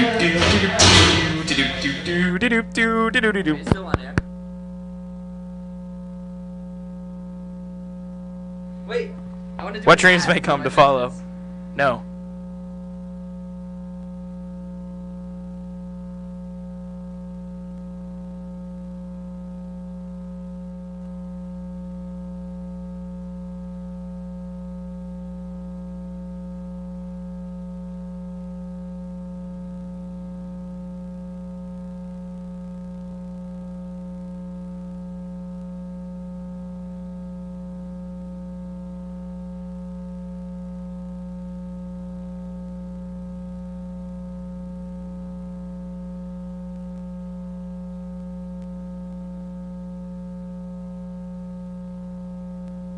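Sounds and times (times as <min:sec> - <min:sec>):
electrical mains hum: 0:00.0 - 0:52.9.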